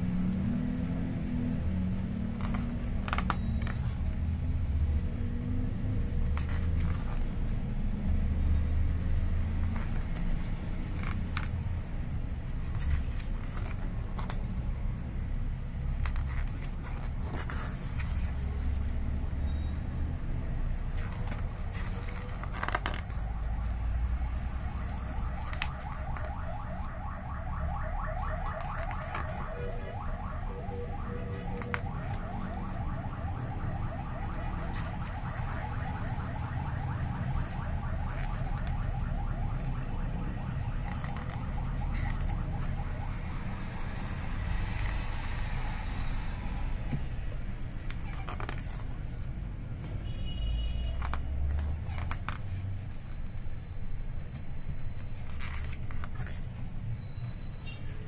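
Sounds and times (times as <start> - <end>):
photo book pages turning: 1.8 - 43.7, 44.4 - 57.5.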